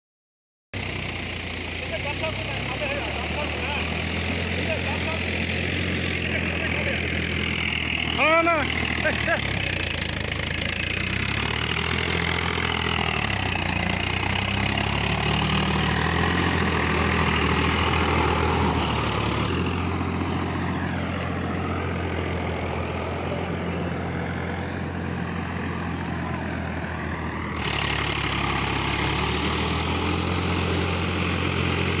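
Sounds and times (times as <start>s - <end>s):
tractor engine droning: 0.8s - 32.0s.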